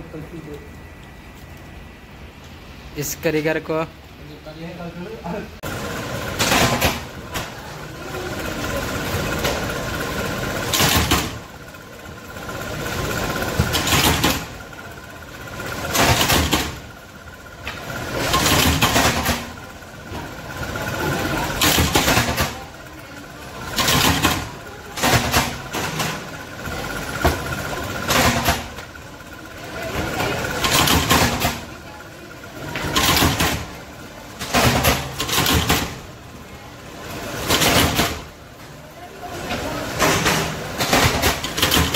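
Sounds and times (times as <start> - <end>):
factory machinery humming: 0.0 - 41.9.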